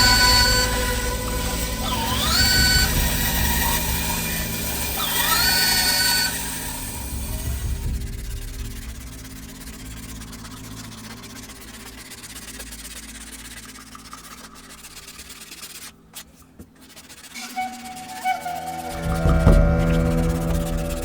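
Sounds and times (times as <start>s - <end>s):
hand sanding wood: 0.0s - 21.0s.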